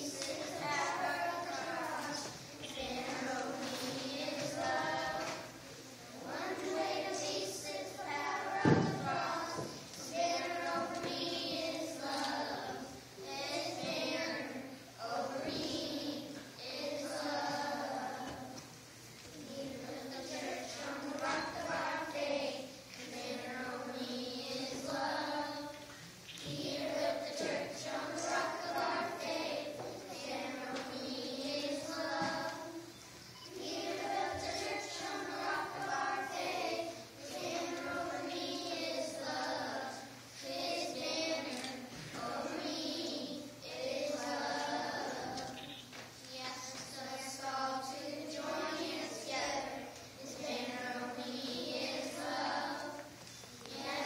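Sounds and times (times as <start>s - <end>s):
children singing in unison: 0.0s - 18.7s, 19.4s - 54.0s.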